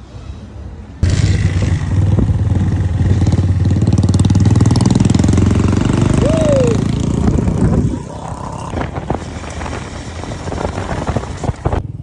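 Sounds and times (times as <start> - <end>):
motorcycle engine running: 1.0 - 12.0.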